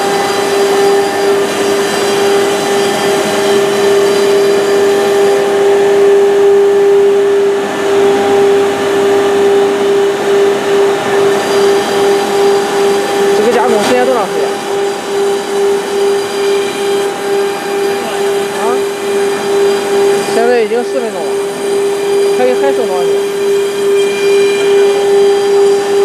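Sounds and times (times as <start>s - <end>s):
woodworking machine whine: 0.0s - 26.0s.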